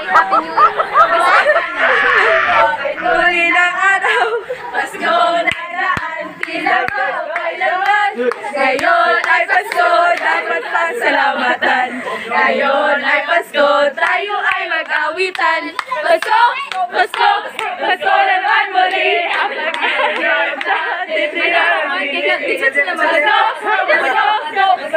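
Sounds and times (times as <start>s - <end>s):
women singing together: 0.0s - 24.9s.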